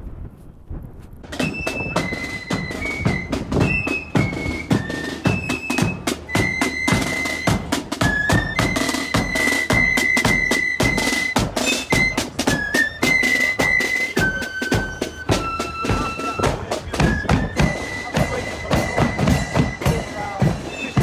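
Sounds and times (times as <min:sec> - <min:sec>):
snare and bass drums: 0:00.0 - 0:21.0
flutes playing a tune: 0:01.3 - 0:21.0.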